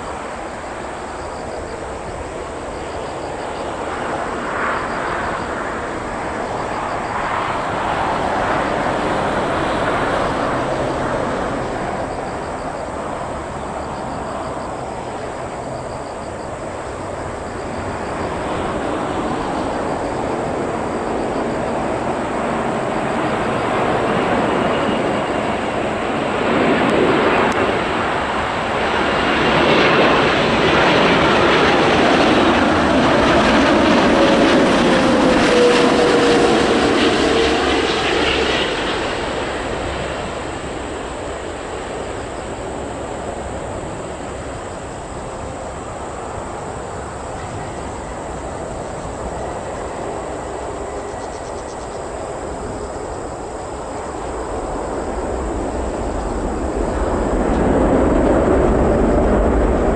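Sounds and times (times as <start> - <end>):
jet engines roaring past: 0.0 - 59.9.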